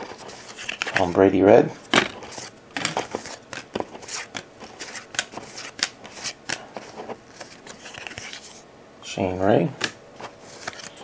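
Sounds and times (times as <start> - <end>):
trading cards flipped by hand: 0.0 - 1.1, 2.0 - 8.6, 9.8 - 11.0.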